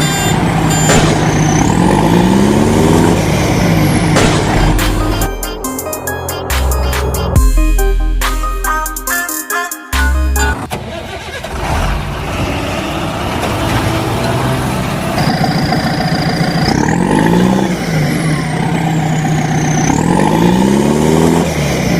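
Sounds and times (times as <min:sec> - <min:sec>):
vehicle engine revving: 0:00.0 - 0:07.4, 0:10.5 - 0:21.9.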